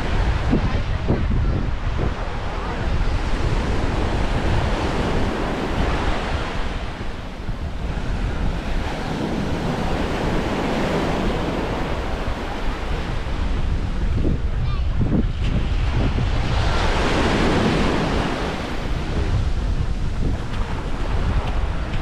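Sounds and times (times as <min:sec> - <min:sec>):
waves washing onto sand: 0:00.0 - 0:22.0
wind buffeting microphone: 0:00.0 - 0:22.0.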